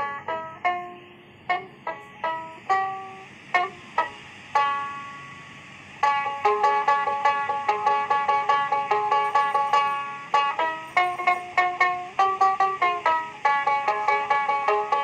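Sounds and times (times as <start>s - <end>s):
plucked string instrument: 0.0s - 5.4s, 6.0s - 15.0s.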